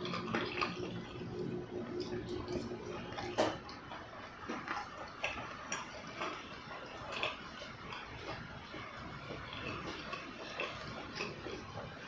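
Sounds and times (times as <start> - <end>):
close chewing with wet mouth sounds: 0.0 - 12.0.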